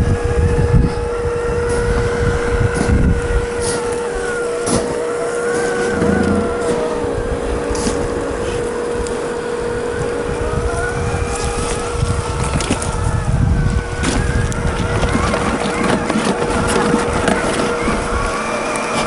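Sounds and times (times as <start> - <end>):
electric motor and gearbox whining: 0.0 - 19.0
tyres rumbling on rough ground: 0.0 - 19.0.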